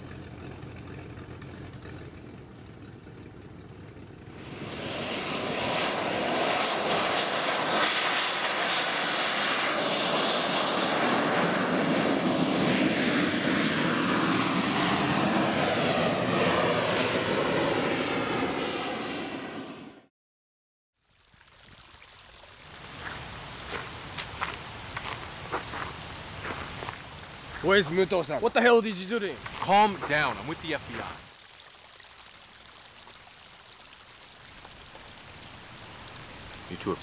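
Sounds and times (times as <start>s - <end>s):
jet engines rushing with high whine: 0.0s - 20.1s, 22.4s - 37.0s.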